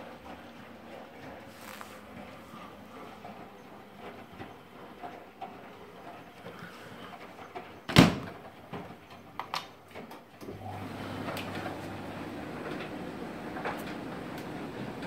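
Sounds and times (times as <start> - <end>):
dryer drum humming: 0.0 - 15.0.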